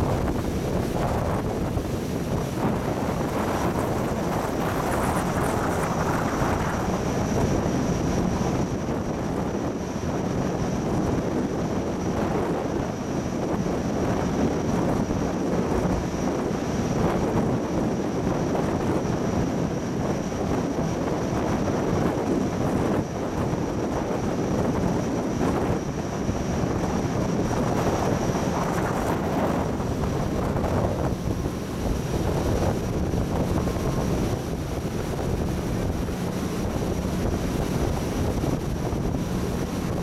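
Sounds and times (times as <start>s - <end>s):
rush of jet wash and wake: 0.0s - 40.0s
wind on microphone: 0.0s - 40.0s.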